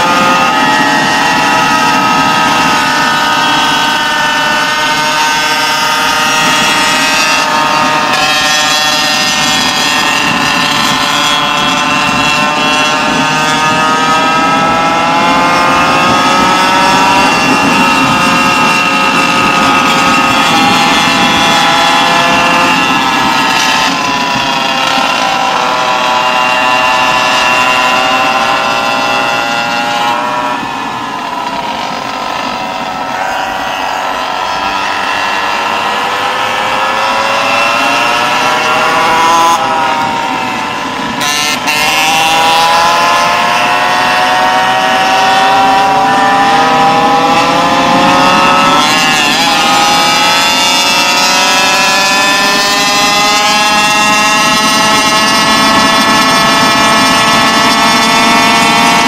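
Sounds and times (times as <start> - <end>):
two-stroke scooter engine running: 0.0 - 30.2, 30.8 - 59.0.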